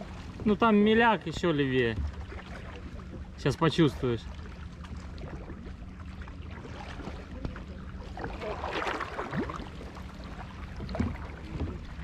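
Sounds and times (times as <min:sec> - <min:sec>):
knocks on boats: 0:00.0 - 0:12.0
paddle splashing in water: 0:00.0 - 0:12.0.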